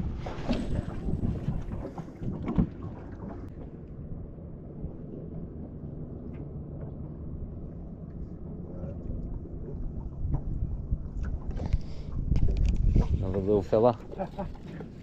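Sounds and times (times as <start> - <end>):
boat motor running: 0.0 - 15.0
wind rumble on microphone: 0.0 - 15.0.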